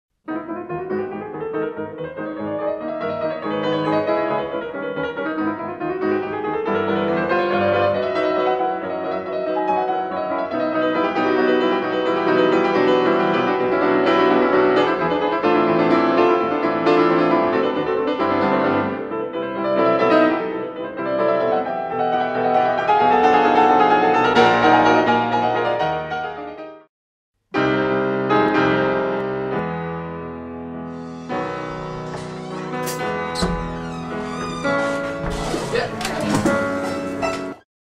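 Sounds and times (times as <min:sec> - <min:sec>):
piano music: 0:00.3 - 0:26.8, 0:27.6 - 0:37.6.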